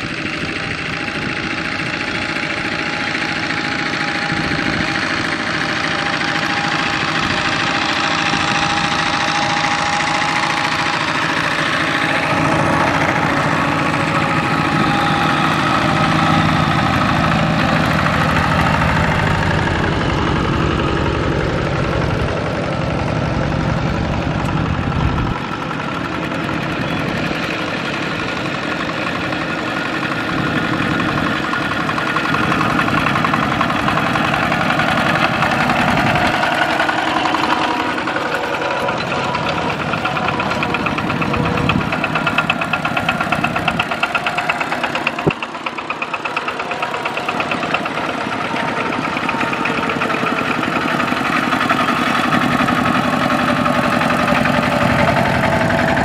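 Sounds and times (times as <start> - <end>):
diesel tractor engines running: 0.0 - 56.0.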